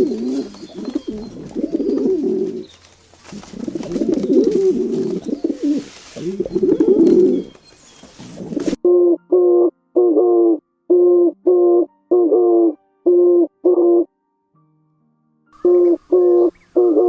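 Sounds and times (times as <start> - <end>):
doves cooing: 0.0 - 14.0, 15.6 - 17.0.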